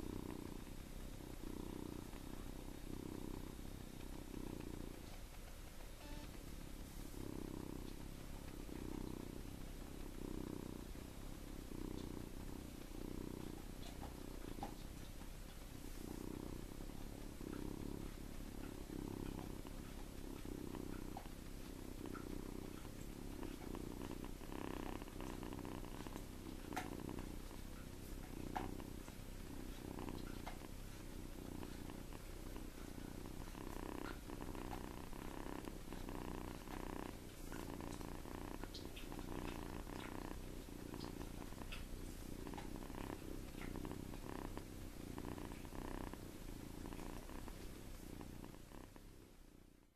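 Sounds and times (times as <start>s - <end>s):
kitten snoring: 0.0s - 49.9s
faint clicks: 0.1s - 49.1s.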